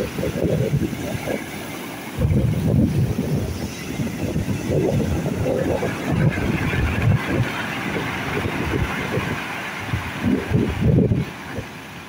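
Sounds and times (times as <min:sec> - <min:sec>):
surf washing over pebbles: 0:00.0 - 0:12.0
wind rumbling on microphone: 0:00.0 - 0:12.0.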